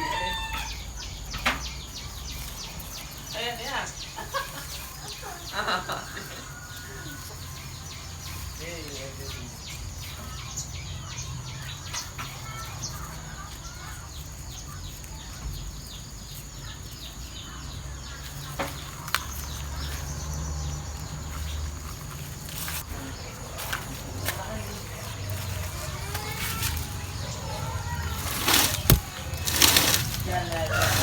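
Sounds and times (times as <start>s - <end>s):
high insect drone: 0.0s - 31.0s.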